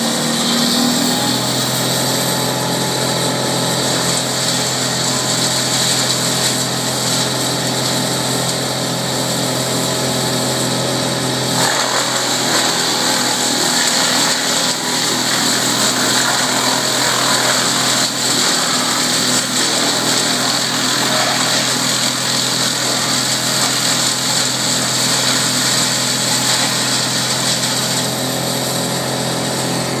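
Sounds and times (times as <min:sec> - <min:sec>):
wood chipper engine running: 0:00.0 - 0:30.0
wood chips blowing from chute: 0:00.0 - 0:30.0.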